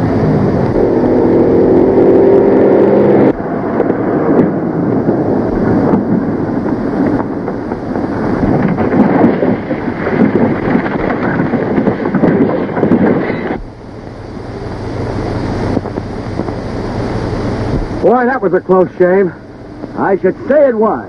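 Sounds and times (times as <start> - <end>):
speeding car rumbling on dirt road: 0.0 - 21.0.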